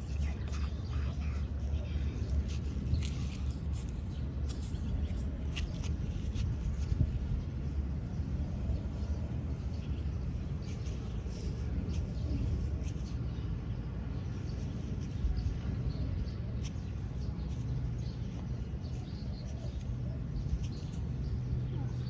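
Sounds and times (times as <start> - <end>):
wind on microphone: 0.0 - 19.4.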